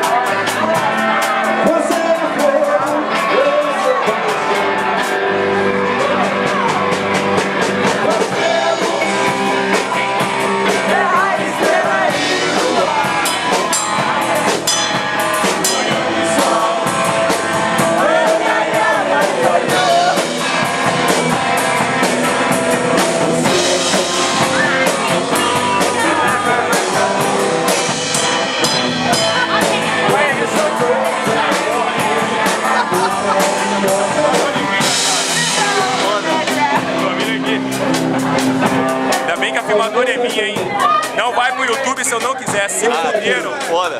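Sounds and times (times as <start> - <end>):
person singing: 0.0 - 7.0, 7.7 - 38.5
electric guitar: 0.0 - 39.5
drum kit: 0.0 - 43.9.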